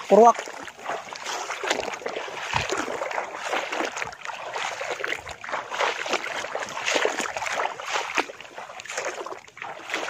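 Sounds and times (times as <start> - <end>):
water sloshing from wading: 0.0 - 10.0.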